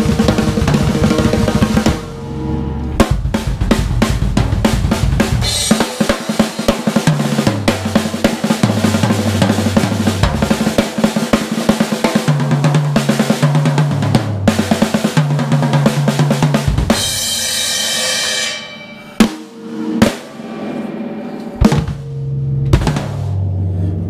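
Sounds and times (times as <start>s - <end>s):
snare and tom fills: 0.0s - 2.2s, 3.0s - 20.9s, 21.6s - 23.4s
cymbal crash: 0.0s - 12.0s, 16.5s - 23.8s.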